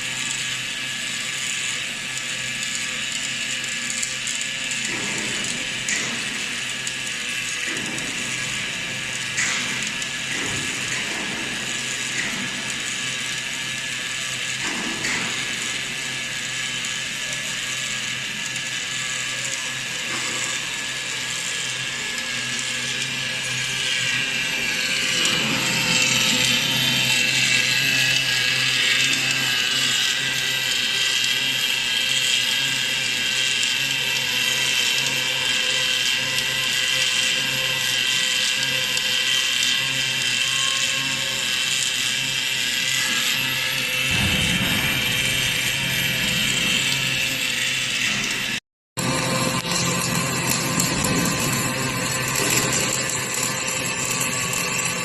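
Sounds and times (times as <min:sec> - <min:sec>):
welding arc hissing: 0:00.0 - 0:48.6.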